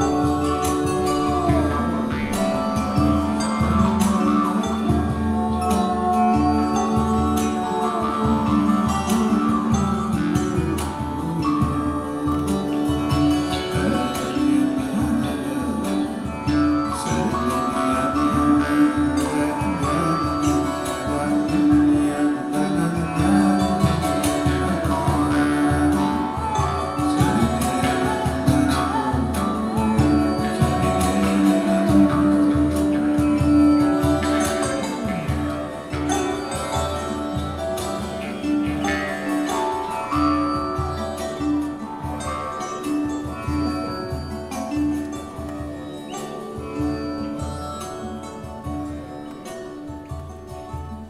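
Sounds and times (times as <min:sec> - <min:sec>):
long held tones: 0:00.0 - 0:51.0
plucked strings: 0:00.0 - 0:51.0.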